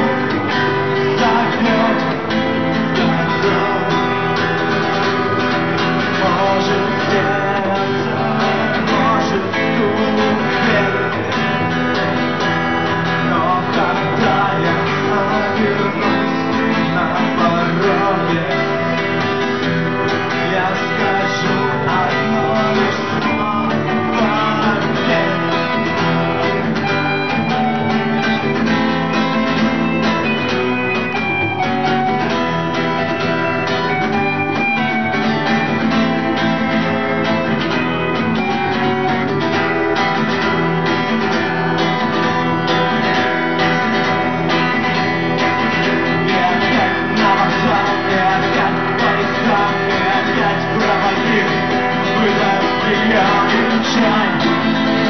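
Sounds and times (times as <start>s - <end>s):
acoustic guitars playing rock: 0.0s - 55.0s.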